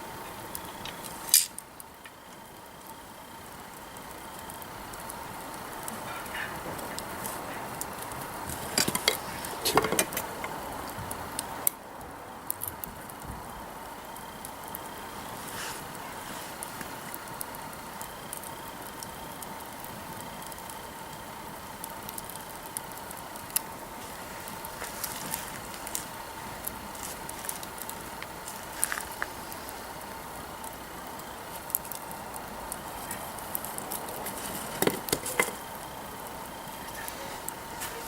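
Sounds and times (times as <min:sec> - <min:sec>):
campfire crackling and popping: 0:00.0 - 0:38.0
low hiss of fire: 0:00.0 - 0:38.0.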